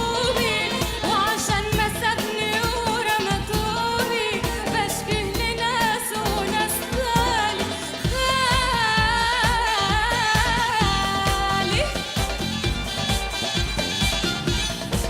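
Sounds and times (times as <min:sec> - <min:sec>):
instrumental backing with beat: 0:00.0 - 0:15.0.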